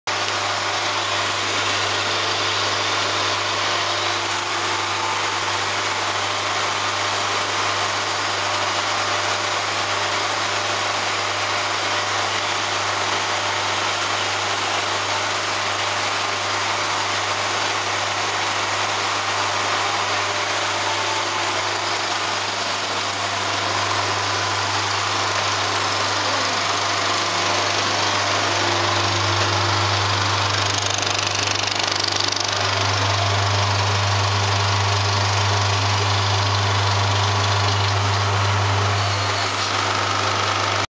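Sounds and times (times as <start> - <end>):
film projector whirring: 0.1 - 40.9.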